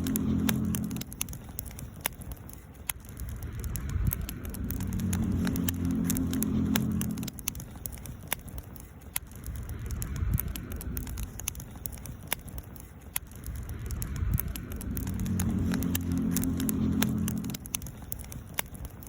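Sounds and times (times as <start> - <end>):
campfire crackling and popping: 0.0 - 19.0
low steady hum: 0.0 - 19.0.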